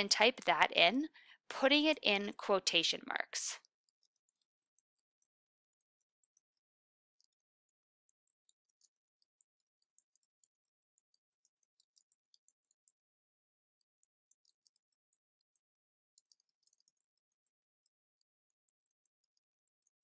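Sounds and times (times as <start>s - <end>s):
typing on computer keyboard: 3.9s - 20.0s.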